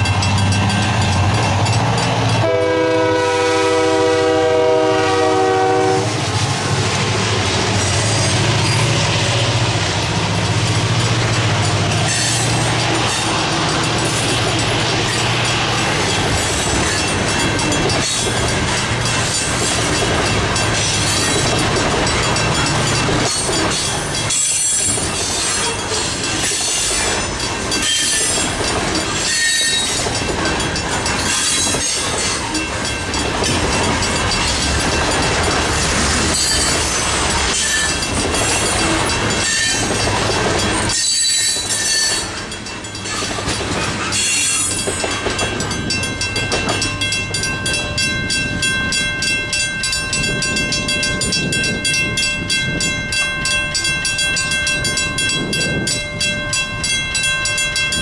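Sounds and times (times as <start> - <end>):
crossing bell ringing: 0.0 - 58.0
freight train cars rolling: 0.0 - 58.0.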